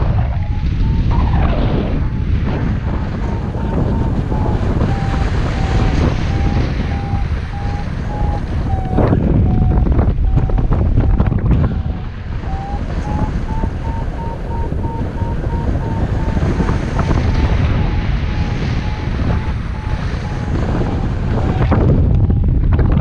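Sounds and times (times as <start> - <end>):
variometer beeping: 0.0 - 22.6
wind rushing over microphone: 0.0 - 23.0.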